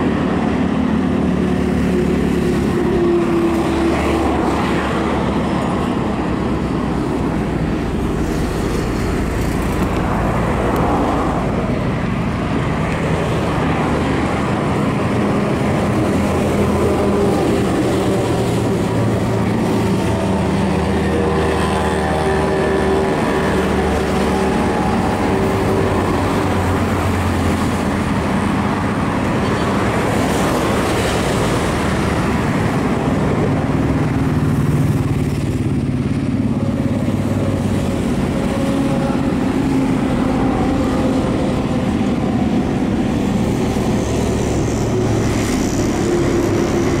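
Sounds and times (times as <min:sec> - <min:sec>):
passing cars and motorcycles: 0:00.0 - 0:47.0
traffic rumble: 0:00.0 - 0:47.0.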